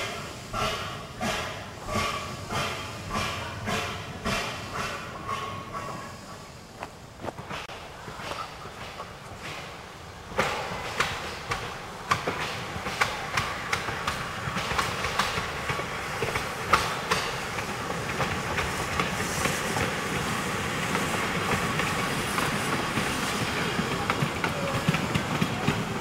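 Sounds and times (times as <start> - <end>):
train rumble: 0.0 - 26.0
train wheels clicking and knocking: 0.0 - 26.0.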